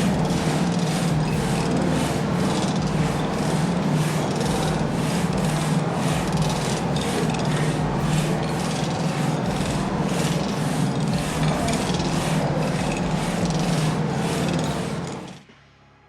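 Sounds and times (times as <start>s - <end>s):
continuous low hum: 0.0s - 16.0s.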